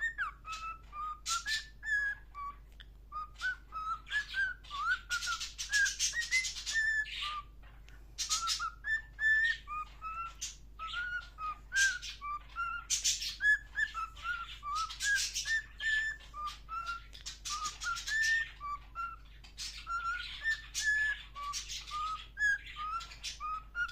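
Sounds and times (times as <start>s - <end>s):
cockatiel scratchy chattering: 0.0s - 23.9s
cockatiel whistling: 0.0s - 23.9s.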